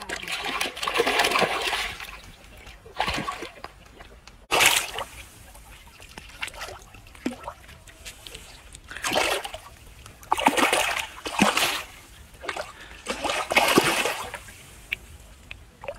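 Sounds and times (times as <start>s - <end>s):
fish splashing in water: 0.0s - 15.0s.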